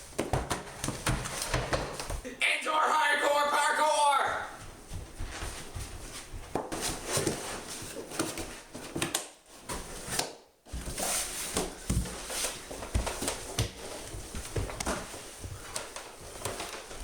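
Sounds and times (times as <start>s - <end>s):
footfalls and thumps indoors: 0.0s - 2.2s, 4.5s - 17.0s.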